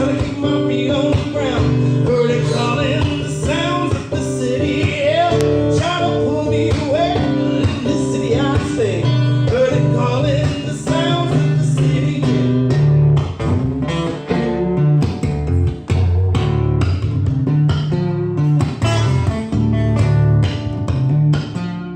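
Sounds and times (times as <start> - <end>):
bass line: 0.0 - 21.9
lead guitar bending notes: 0.0 - 21.9
rhythm guitar: 0.0 - 21.9.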